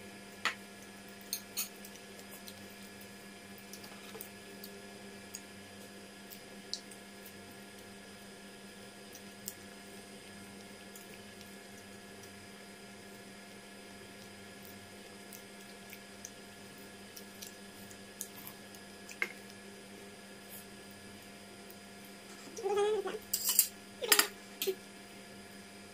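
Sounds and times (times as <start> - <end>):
soft squishes of eating: 0.2 - 23.4.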